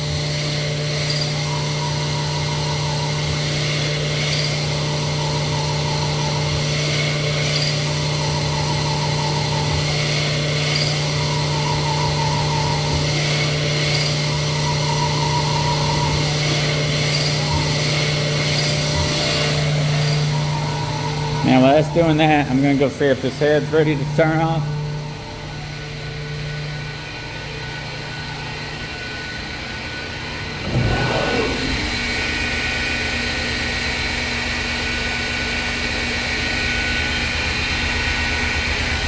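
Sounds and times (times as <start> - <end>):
hone whirring in cylinder: 0.0 - 39.0
steady machine hum: 0.0 - 39.0.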